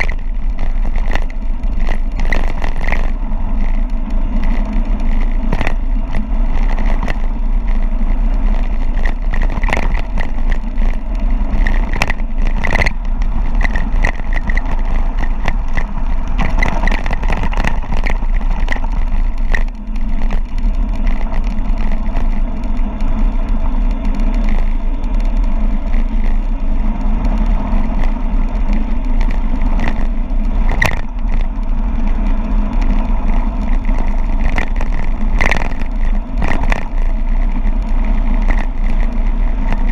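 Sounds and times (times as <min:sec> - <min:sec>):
bike clattering over bumps: 0:00.0 - 0:39.9
tyres rumbling over rough ground: 0:00.0 - 0:39.9
wind buffeting microphone: 0:00.0 - 0:39.9.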